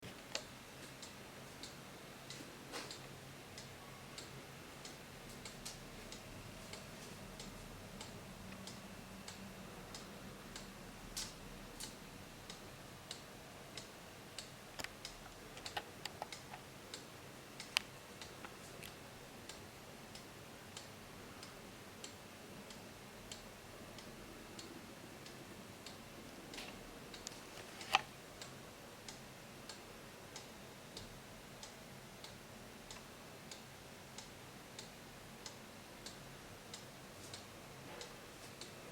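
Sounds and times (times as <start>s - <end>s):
wall clock ticking: 0.1s - 38.9s.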